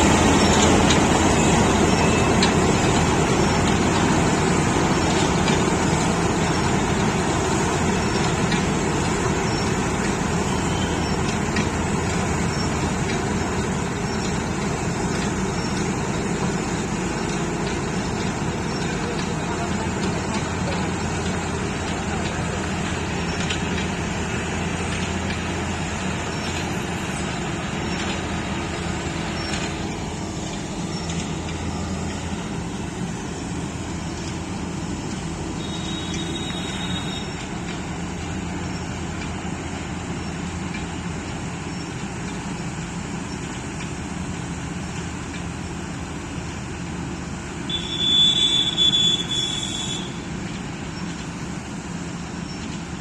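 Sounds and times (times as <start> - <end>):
combine harvester droning: 0.0 - 53.0.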